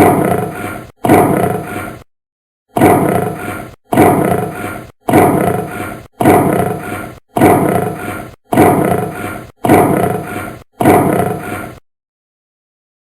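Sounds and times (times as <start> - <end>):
recorded animal roar: 0.0 - 2.0, 2.8 - 11.8.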